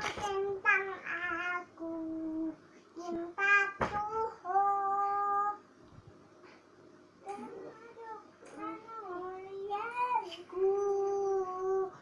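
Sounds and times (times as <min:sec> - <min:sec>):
toddler singing: 0:00.0 - 0:05.6, 0:07.3 - 0:12.0.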